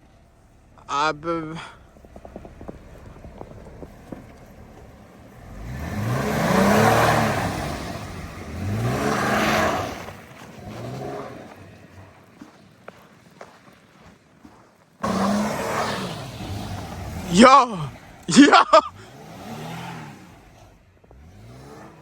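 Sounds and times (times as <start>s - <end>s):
engine revving: 0.0s - 12.5s, 15.0s - 22.0s.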